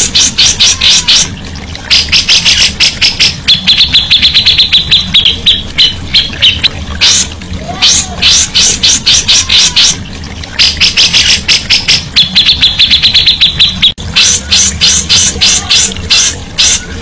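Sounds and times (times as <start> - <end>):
songbird chirping and trilling: 0.0 - 17.0.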